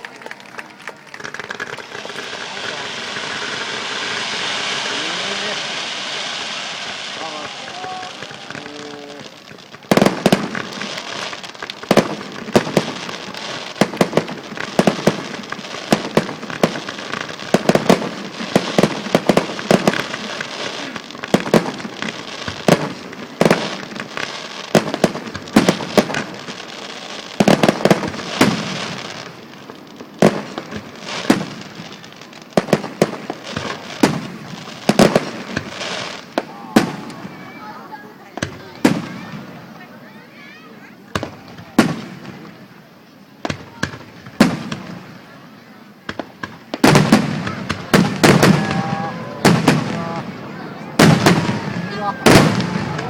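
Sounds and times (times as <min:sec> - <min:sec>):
fireworks bursting with sharp bangs: 0:00.0 - 0:53.0.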